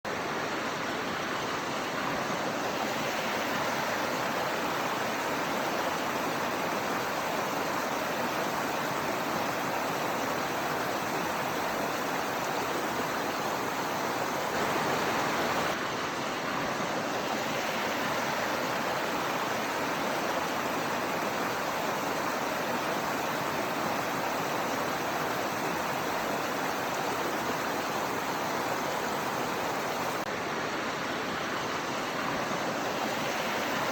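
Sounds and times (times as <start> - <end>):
waterfall roaring: 0.1 - 33.9.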